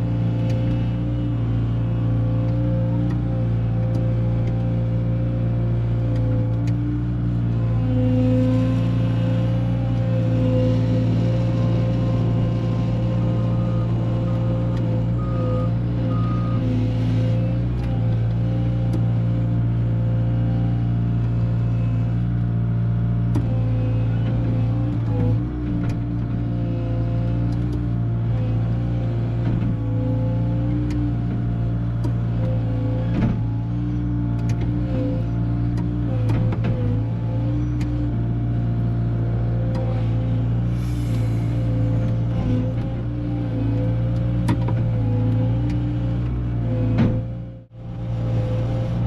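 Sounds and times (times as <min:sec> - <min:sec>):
loader engine running: 0:00.0 - 0:49.0.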